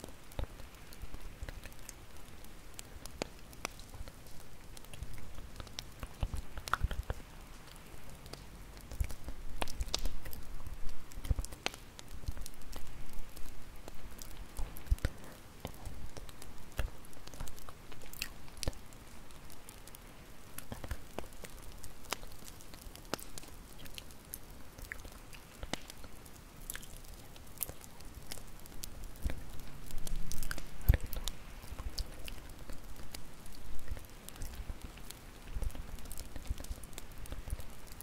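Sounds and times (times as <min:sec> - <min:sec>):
bonfire crackling and popping: 0:00.0 - 0:38.0.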